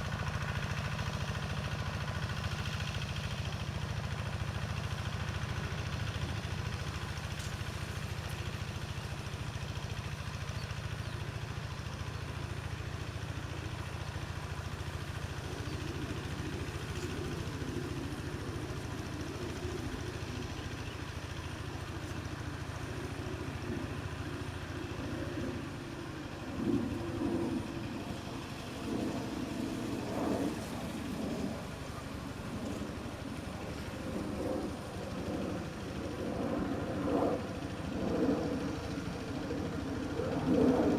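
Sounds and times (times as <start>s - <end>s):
hand tractor diesel engine: 0.0s - 40.9s.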